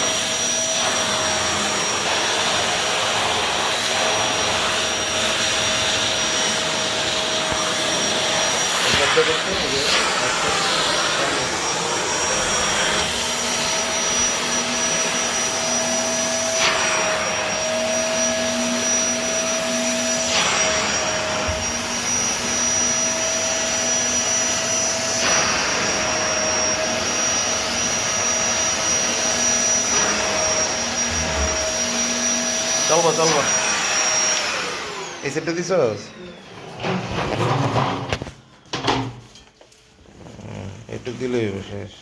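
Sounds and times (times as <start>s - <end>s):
vacuum cleaner running: 0.0s - 39.2s, 39.8s - 41.9s.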